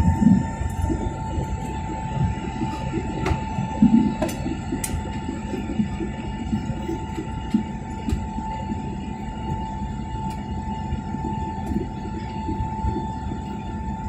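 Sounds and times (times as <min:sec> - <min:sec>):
high whine: 0:00.0 - 0:14.0
jet engines rumbling: 0:00.0 - 0:14.0.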